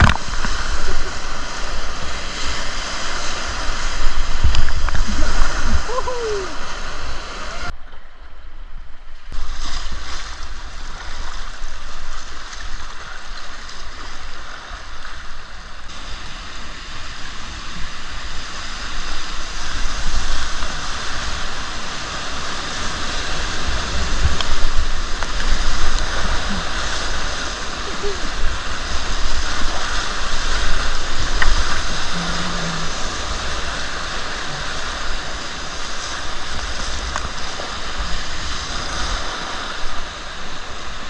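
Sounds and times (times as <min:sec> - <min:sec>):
river water rushing: 0:00.0 - 0:07.8, 0:09.4 - 0:41.0.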